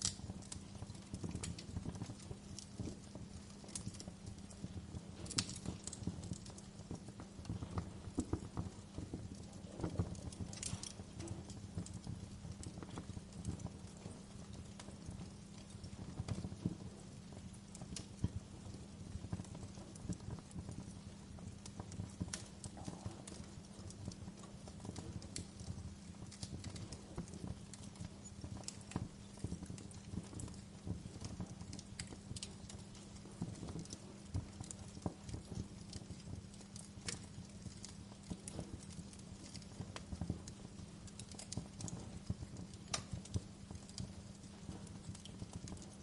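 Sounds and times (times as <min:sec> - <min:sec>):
fire crackling and popping: 0:00.0 - 0:46.0
low rumble of flames: 0:00.0 - 0:46.0.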